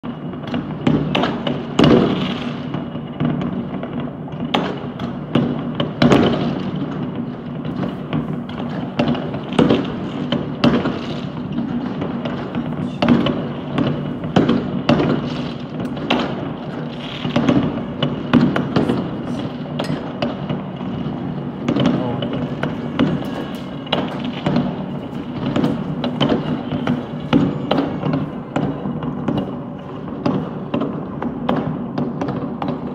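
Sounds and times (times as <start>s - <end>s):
distant fireworks bangs and crackling: 0.0s - 32.9s
loud firework bangs: 0.0s - 32.9s.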